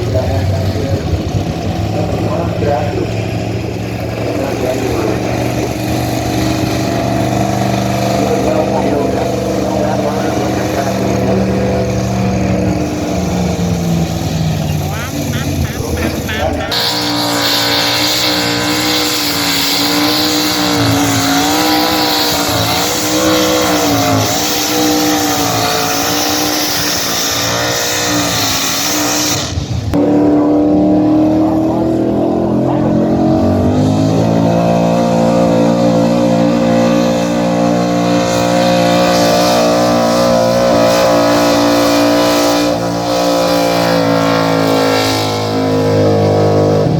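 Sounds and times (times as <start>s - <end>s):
pulling vehicle engine running loudly: 0.0s - 46.9s.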